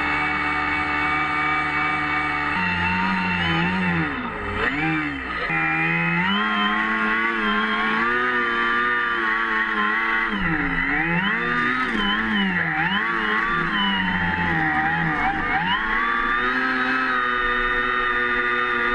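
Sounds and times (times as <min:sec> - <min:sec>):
electric motors driving propellers: 0:00.0 - 0:18.9.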